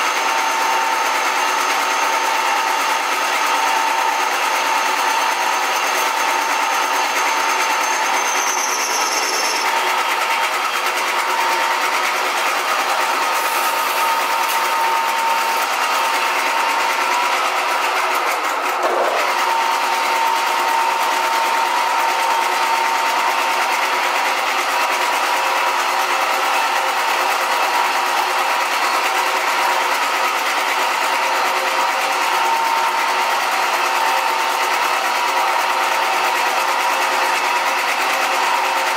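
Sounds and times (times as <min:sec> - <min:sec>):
metal lathe motor whine: 0:00.0 - 0:38.9.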